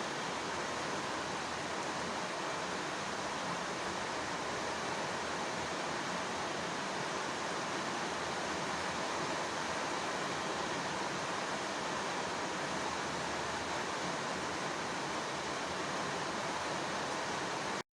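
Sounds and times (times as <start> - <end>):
soft steady rain: 0.0 - 17.8.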